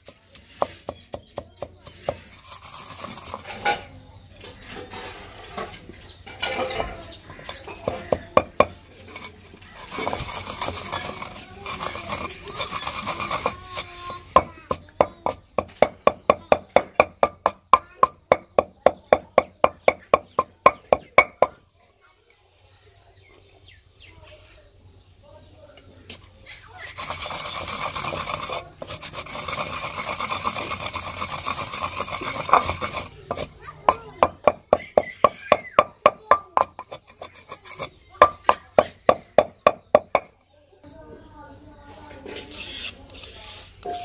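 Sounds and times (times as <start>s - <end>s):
pestle grinding in stone mortar: 0.0s - 21.6s, 26.1s - 40.4s, 42.4s - 44.0s
pestle pounding strokes: 0.0s - 21.6s, 26.1s - 40.4s.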